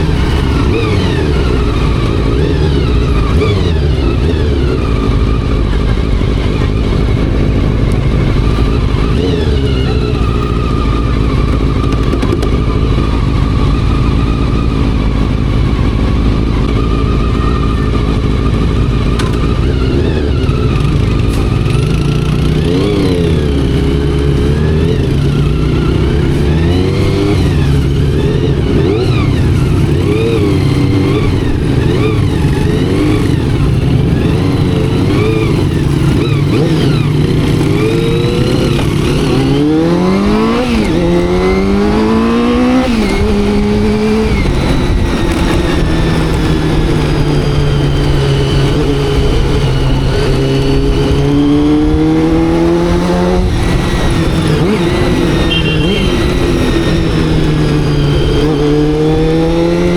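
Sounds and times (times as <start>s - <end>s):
motorcycle upshifts: 0.0s - 14.6s, 15.2s - 59.9s
motorcycle engine revving: 0.0s - 59.9s.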